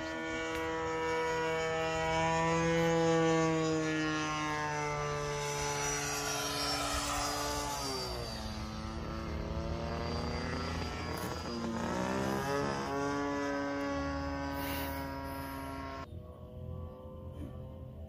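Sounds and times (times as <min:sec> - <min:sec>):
model airplane motor droning: 0:00.0 - 0:18.0.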